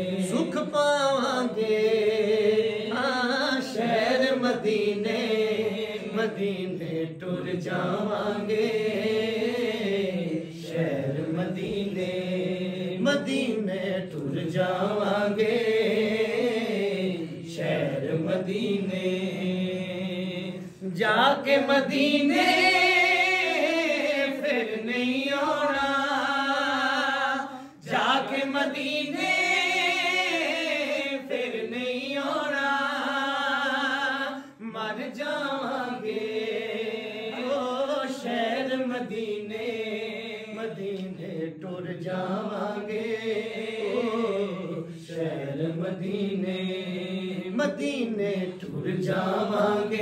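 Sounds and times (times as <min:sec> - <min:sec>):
men singing in chorus: 0:00.0 - 0:50.0
men singing without instruments: 0:00.0 - 0:50.0.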